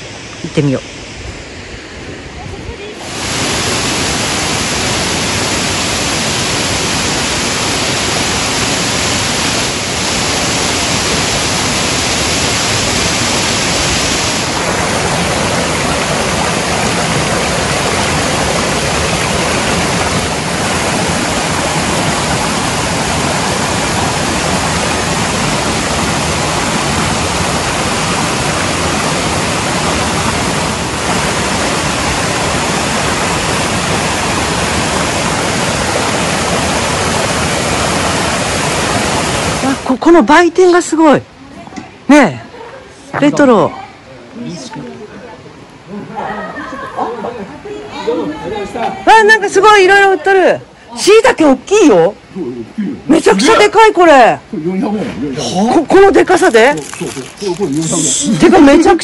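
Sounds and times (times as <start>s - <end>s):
waterfall rushing: 0.0s - 54.6s, 55.3s - 59.0s
stream flowing: 0.0s - 59.0s.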